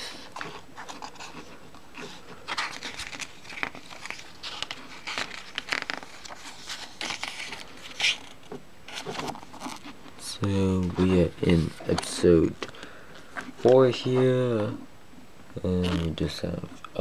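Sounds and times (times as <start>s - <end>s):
calendar pages flipping: 0.1s - 14.1s.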